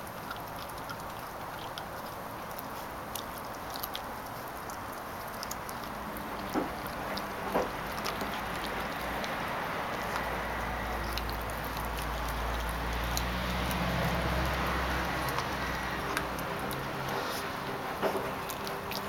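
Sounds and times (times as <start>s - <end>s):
puppy gnawing bone: 0.0s - 19.0s.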